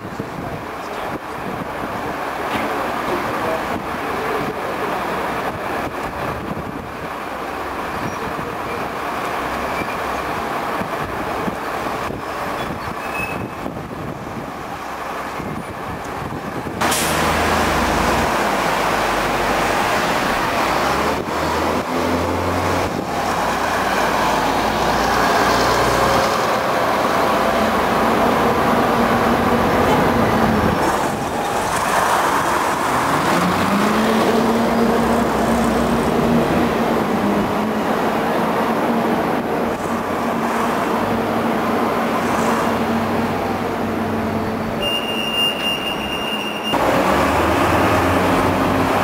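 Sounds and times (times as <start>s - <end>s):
bus diesel engine running: 0.0s - 49.0s
traffic noise: 0.0s - 49.0s.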